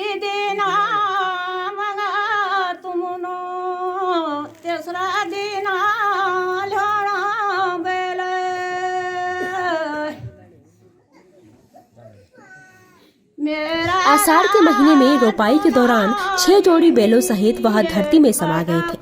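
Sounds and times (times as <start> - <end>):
woman singing slow melody: 0.0 - 10.2, 13.4 - 19.0.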